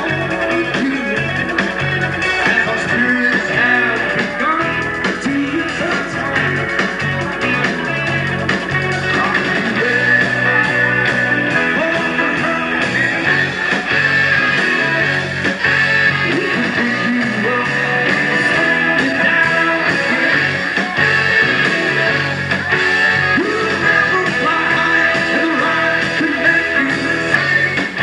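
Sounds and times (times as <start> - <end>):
electric guitar: 0.0 - 28.0
rock band playing live: 0.0 - 28.0.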